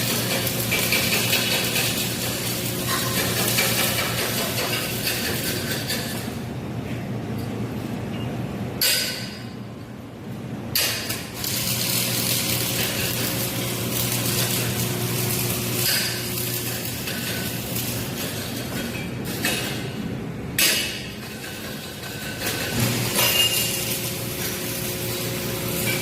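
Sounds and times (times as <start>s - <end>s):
arc welding crackling: 0.0s - 6.5s, 10.8s - 20.0s, 20.6s - 26.0s
low machine hum: 0.0s - 26.0s.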